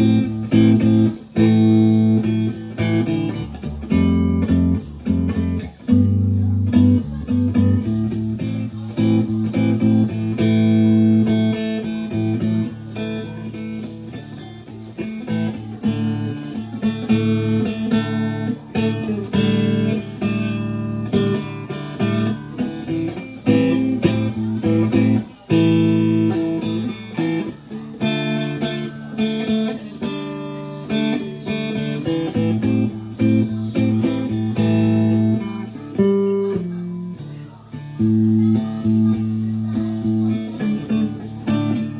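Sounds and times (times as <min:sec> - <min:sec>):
electric guitar picked notes and chords: 0:00.0 - 0:41.9.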